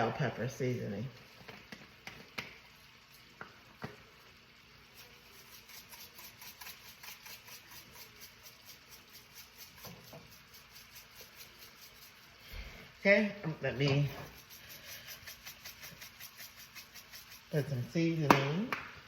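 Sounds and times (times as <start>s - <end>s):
seasoning shaker shaking: 0.4s - 18.7s.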